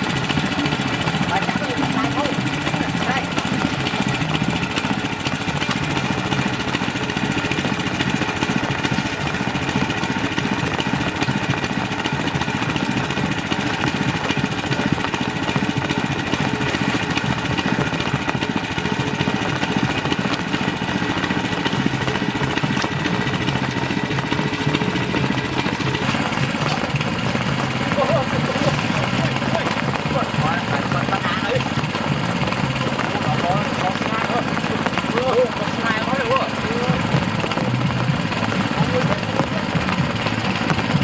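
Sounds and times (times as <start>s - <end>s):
small engine driving water pump: 0.0s - 41.0s.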